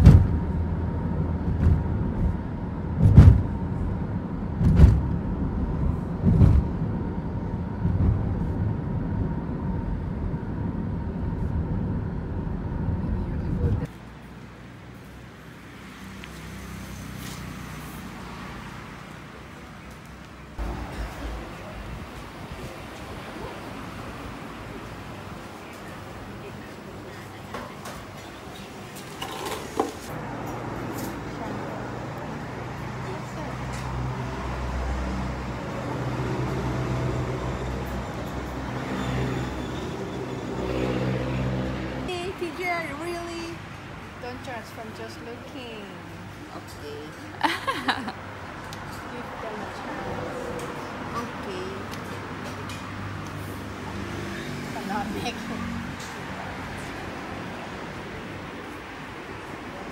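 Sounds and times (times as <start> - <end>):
street traffic hum: 0.0 - 59.9.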